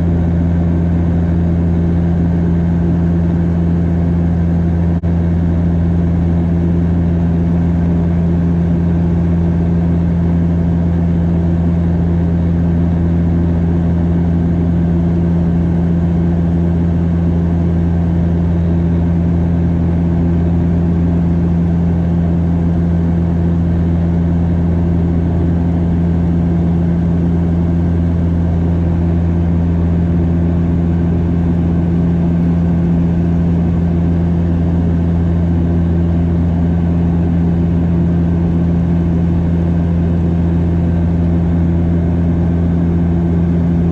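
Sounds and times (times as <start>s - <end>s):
propeller plane cabin drone: 0.0s - 43.9s.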